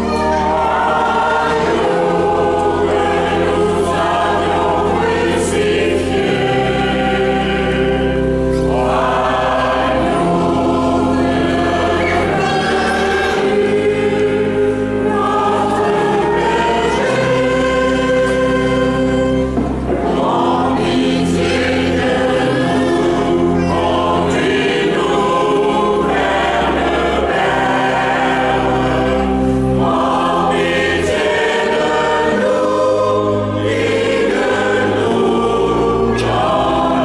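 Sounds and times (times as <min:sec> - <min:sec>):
mixed choir singing a hymn: 0:00.0 - 0:37.0.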